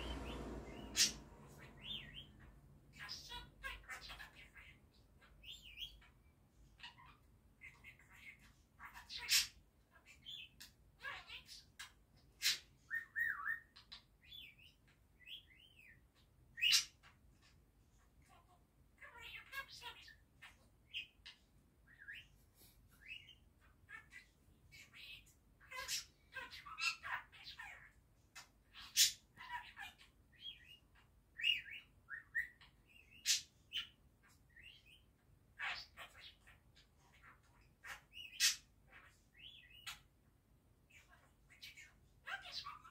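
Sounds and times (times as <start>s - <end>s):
budgerigar chirping and warbling: 0.0s - 17.6s, 18.2s - 22.4s, 23.0s - 40.1s, 40.9s - 42.9s.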